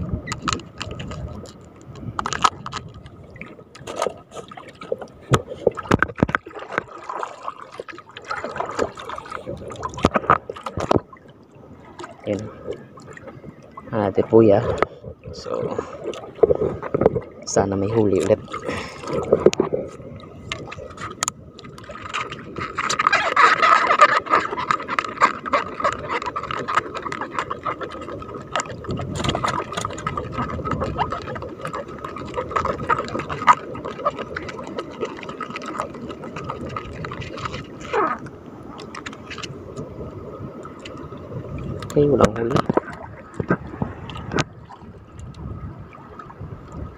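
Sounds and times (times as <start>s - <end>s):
water splashing against boat: 0.0s - 46.9s.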